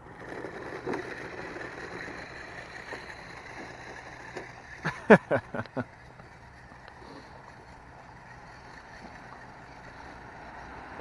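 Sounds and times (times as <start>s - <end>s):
small electric motor whine: 0.0s - 5.1s, 5.8s - 11.0s.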